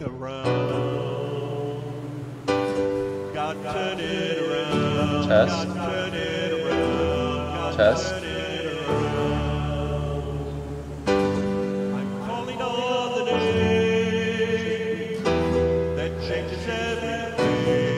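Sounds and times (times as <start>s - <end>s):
acoustic guitar: 0.0s - 17.9s
person singing: 0.0s - 17.9s
held chords: 0.4s - 17.9s.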